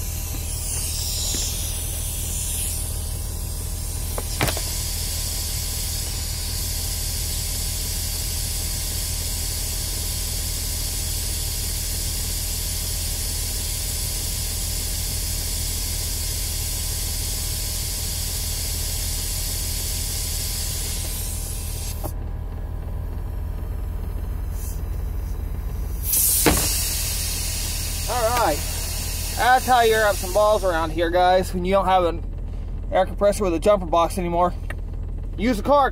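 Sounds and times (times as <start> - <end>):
air compressor hissing: 0.0 - 22.2, 23.5 - 33.5
low steady hum: 0.0 - 35.9.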